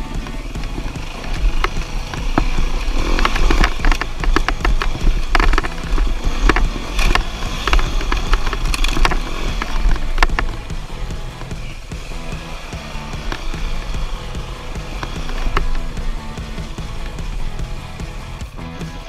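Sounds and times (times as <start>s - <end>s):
dirt bike engine running: 0.0s - 19.0s
sharp knocks and clatter: 0.0s - 19.0s.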